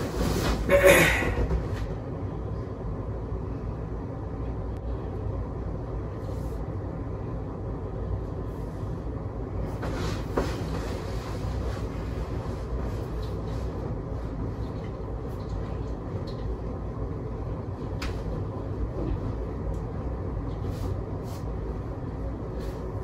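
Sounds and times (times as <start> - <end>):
low rumbling noise: 0.0 - 23.0.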